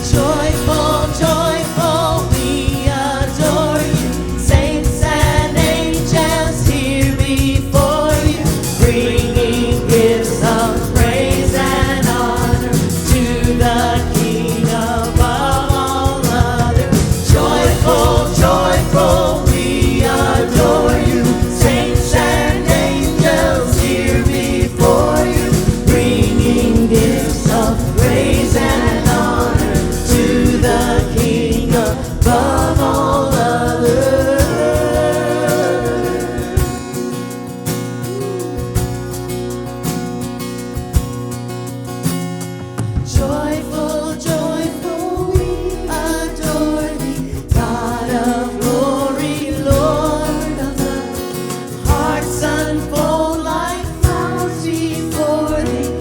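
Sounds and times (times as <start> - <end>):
voices singing together: 0.0 - 38.9, 43.0 - 56.0
band playing steady beat: 0.0 - 56.0.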